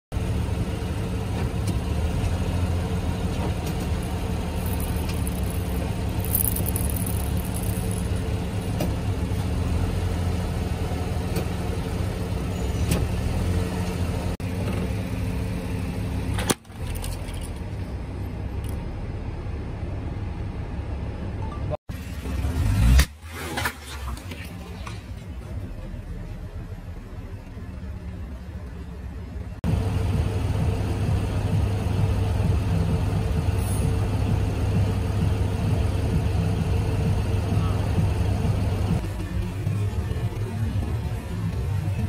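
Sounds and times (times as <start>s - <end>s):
car engine idling: 0.1s - 21.0s, 24.7s - 42.0s.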